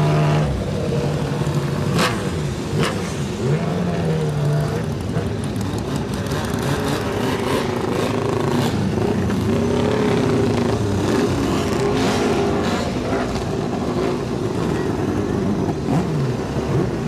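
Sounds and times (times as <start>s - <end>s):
vehicle engines revving: 0.0s - 17.0s.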